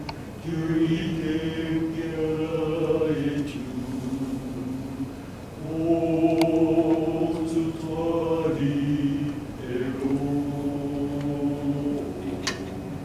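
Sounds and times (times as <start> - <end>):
male vocal quartet singing hymn: 0.4 - 13.0.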